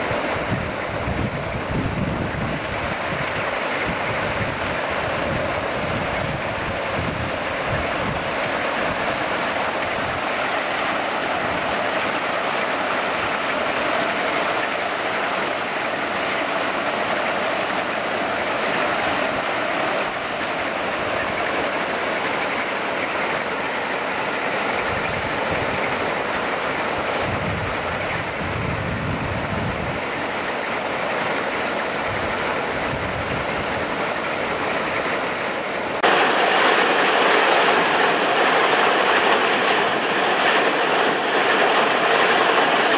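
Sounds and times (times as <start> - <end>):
conveyor belts running: 0.0 - 42.9.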